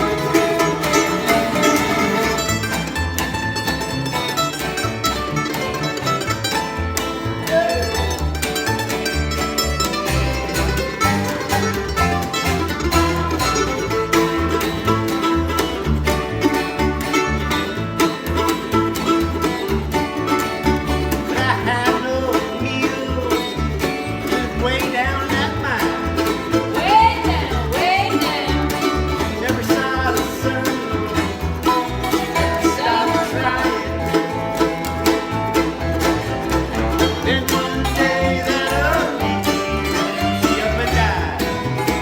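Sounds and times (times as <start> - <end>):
bluegrass string-band music: 0.0 - 42.0
sliding melody line: 0.0 - 42.0.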